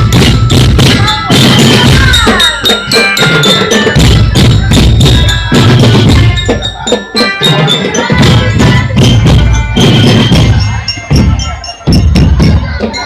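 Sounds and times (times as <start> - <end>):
drums pounding: 0.0 - 13.0
ringing bells or gongs: 0.0 - 13.0.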